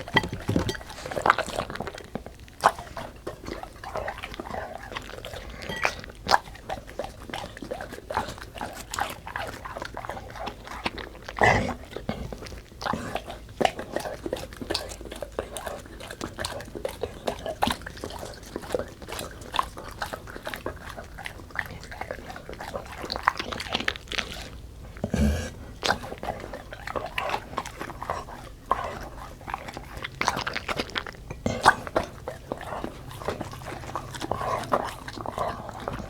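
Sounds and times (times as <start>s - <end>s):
dog chewing wet food: 0.0s - 36.0s.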